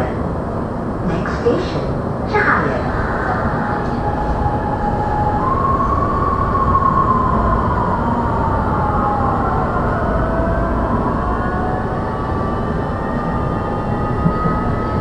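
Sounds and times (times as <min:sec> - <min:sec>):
high train whine: 0:00.0 - 0:15.0
train wheels rumbling on rail: 0:00.0 - 0:15.0.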